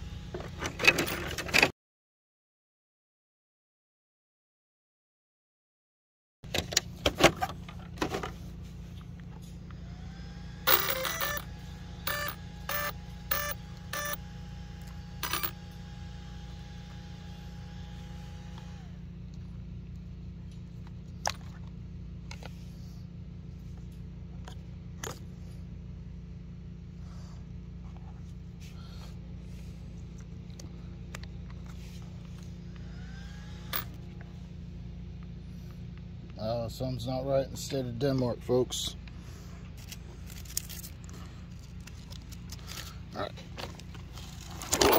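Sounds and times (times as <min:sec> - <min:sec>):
steady low hum: 0:06.5 - 0:44.9.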